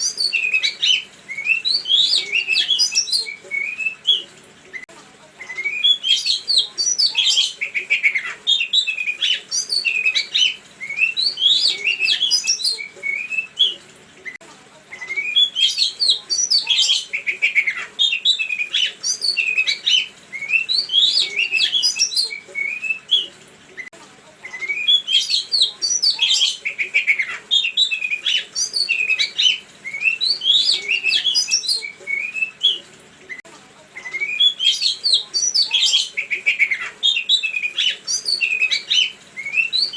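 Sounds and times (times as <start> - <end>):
songbird chirps and whistles: 0.0 - 39.9.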